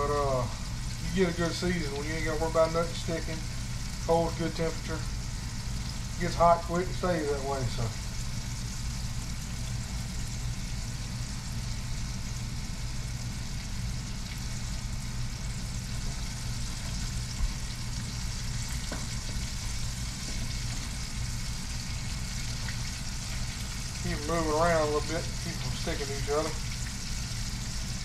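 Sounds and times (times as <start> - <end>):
fish deep-frying in oil: 0.0 - 28.0
low steady hum: 0.0 - 28.0.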